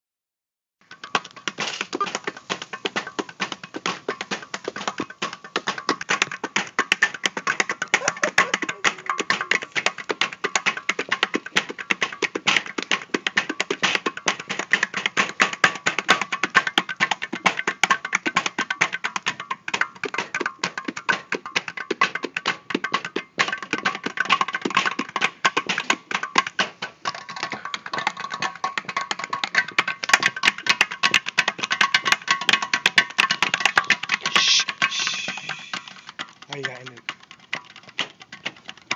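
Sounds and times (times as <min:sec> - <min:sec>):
fast dense percussion music: 0:00.9 - 0:37.3.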